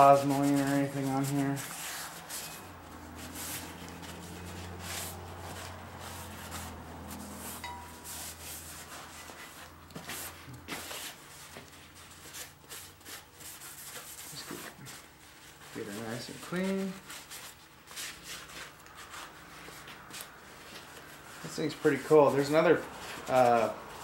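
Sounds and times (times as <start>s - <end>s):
rag wiping metal: 0.0s - 24.0s.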